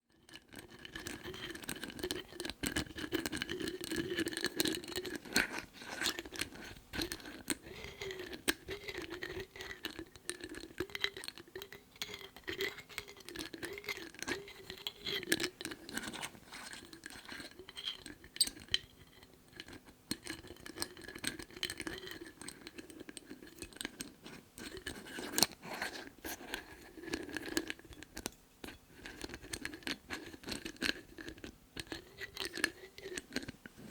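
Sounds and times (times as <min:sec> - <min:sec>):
lids tapped and scratched: 0:00.3 - 0:33.9.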